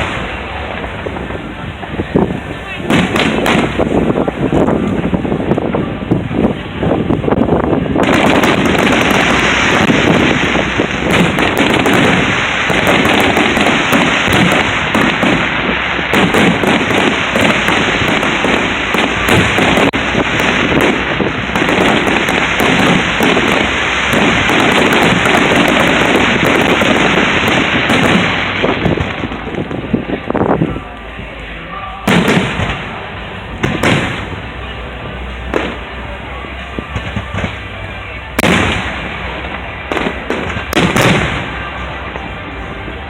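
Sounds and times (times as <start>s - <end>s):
fireworks booming: 0.0s - 43.0s
fireworks crackling: 0.0s - 43.0s.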